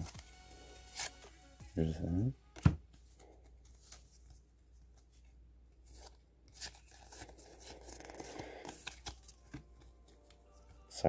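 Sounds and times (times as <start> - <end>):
cards sliding rustle: 0.0 - 1.7, 2.6 - 10.8.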